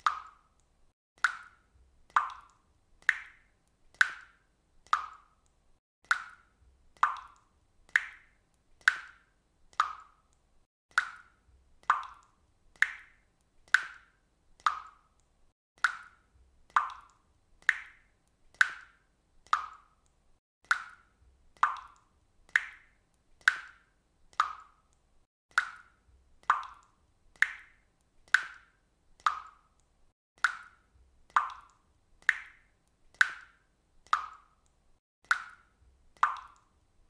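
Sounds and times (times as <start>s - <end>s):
water dripping from faucet: 0.0s - 37.0s.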